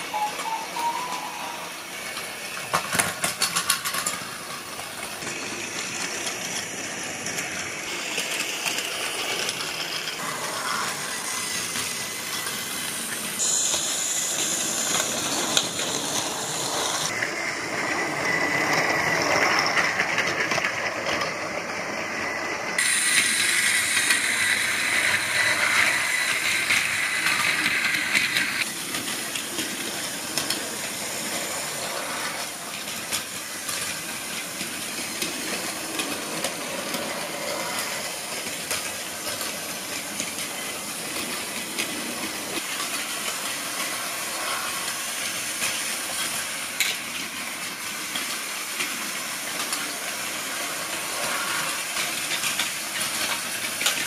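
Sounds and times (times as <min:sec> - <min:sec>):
toy train motors whirring: 0:00.0 - 0:54.0
wheels rattling on plastic track: 0:00.1 - 0:54.0.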